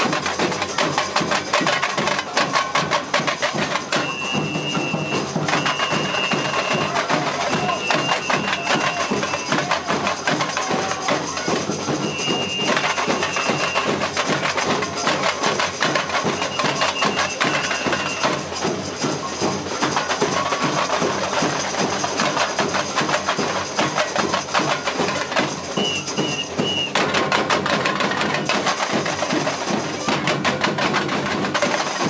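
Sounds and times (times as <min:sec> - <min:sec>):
samba percussion band drumming: 0:00.0 - 0:32.0.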